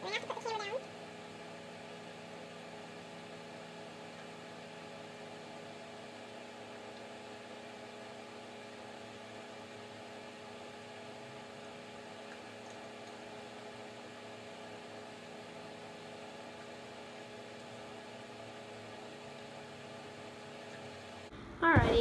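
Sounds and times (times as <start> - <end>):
steady hum of fixed tones: 0.0 - 22.0.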